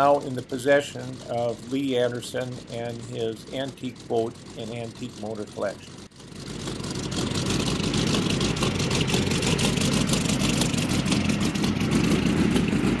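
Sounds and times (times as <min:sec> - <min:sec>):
racing engine running: 0:00.0 - 0:13.0.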